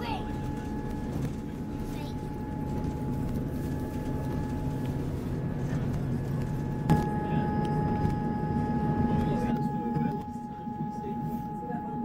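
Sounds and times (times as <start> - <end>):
train rumbling along track: 0.0 - 11.9
constant whine: 0.0 - 12.0.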